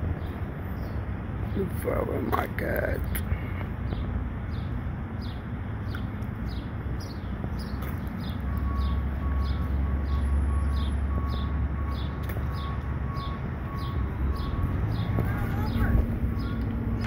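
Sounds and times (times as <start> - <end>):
vehicle engine rumble: 0.0 - 17.0
bird chirping: 3.1 - 17.0.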